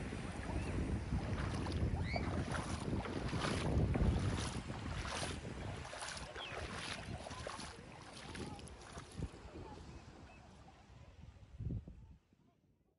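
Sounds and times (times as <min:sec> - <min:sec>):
wind on microphone: 0:00.0 - 0:12.5.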